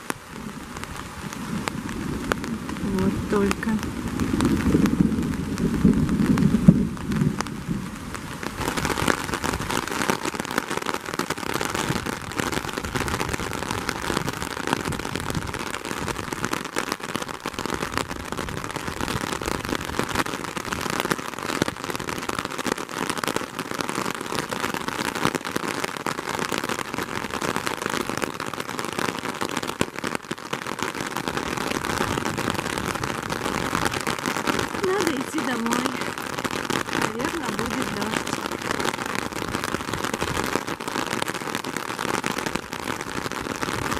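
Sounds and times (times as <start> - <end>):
rain hissing: 0.0 - 43.9
raindrops hitting an umbrella: 0.0 - 43.9.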